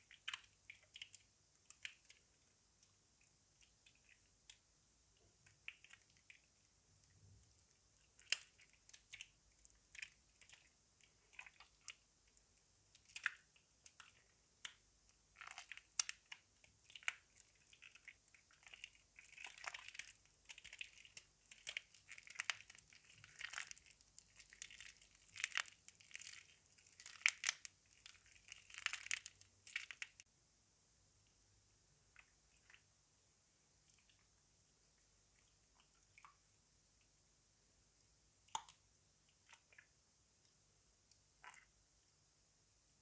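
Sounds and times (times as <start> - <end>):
wet soap squelching: 0.0 - 30.3, 32.0 - 37.2, 38.0 - 41.8.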